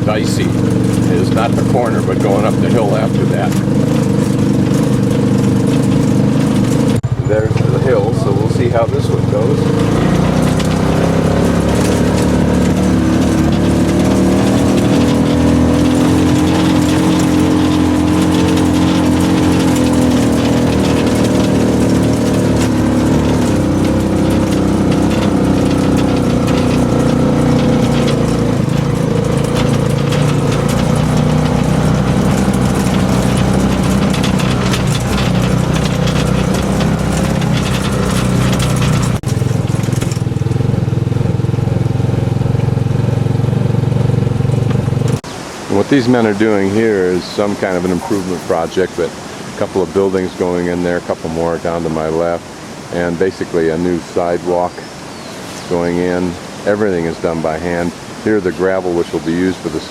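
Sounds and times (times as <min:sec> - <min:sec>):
small engine running under load: 0:00.0 - 0:59.9.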